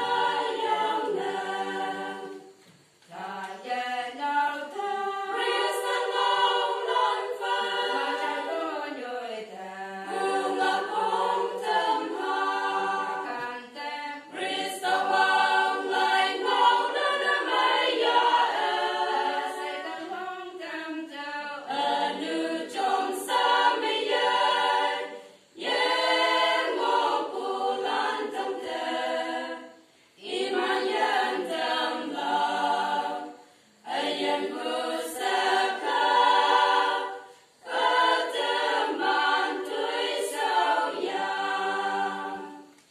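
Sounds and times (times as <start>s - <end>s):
women's choir singing a cappella: 0.0s - 42.9s.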